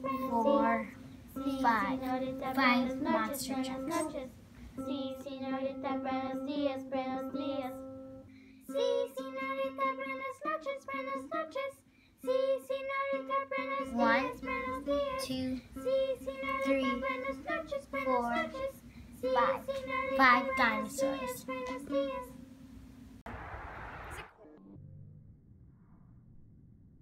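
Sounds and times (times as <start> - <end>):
child singing: 0.0 - 7.8, 8.6 - 22.4
children's song music: 0.0 - 22.8.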